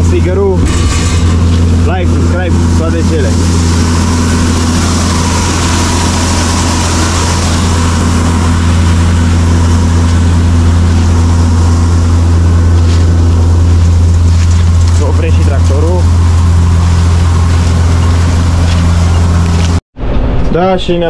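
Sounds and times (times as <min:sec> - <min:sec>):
diesel engines droning: 0:00.0 - 0:19.8.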